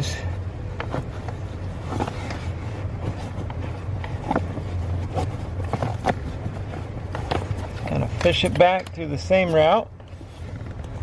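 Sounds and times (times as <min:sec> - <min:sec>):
steady low hum: 0:00.0 - 0:11.0
cable clicks and rustles: 0:00.7 - 0:11.0.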